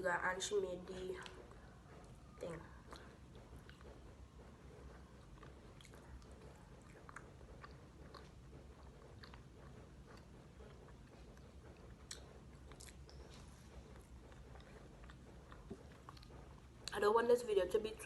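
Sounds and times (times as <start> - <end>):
low steady hum: 0.0 - 18.0
person chewing and biting: 1.2 - 17.0.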